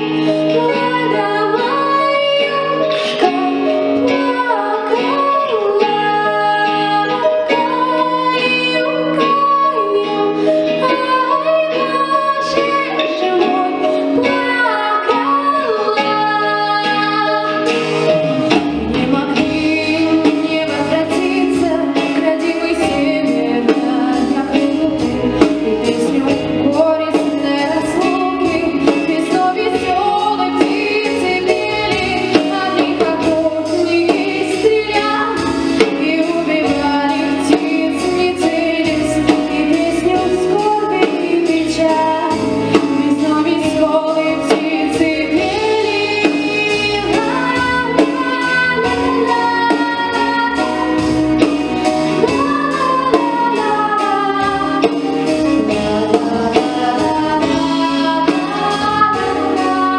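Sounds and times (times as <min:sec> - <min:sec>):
girl singing into a microphone: 0:00.0 - 0:18.0, 0:18.7 - 0:59.9
instrumental accompaniment with beat: 0:00.0 - 0:59.9.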